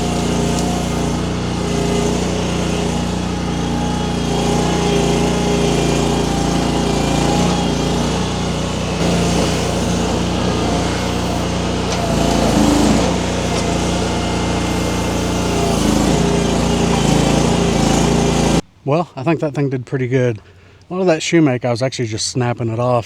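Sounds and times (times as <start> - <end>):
small engine running: 0.0 - 18.6.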